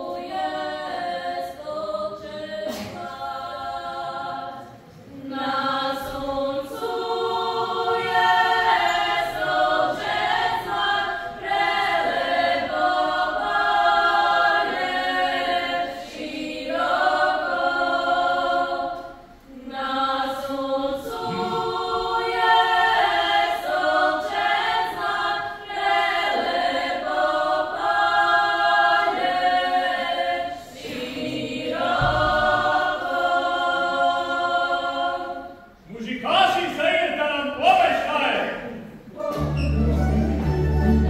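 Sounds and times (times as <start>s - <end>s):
women singing in harmony: 0.0s - 35.8s.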